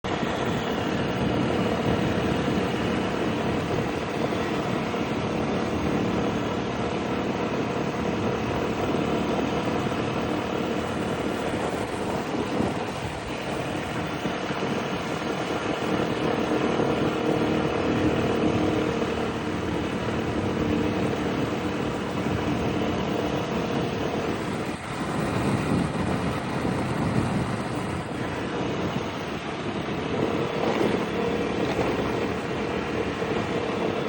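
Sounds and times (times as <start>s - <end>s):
scooter engine running: 0.0s - 34.0s
wind and road noise: 0.0s - 34.0s.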